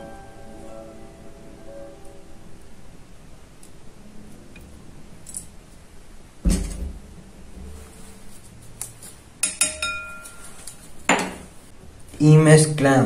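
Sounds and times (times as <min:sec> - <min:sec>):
faint room noise: 0:00.0 - 0:13.0.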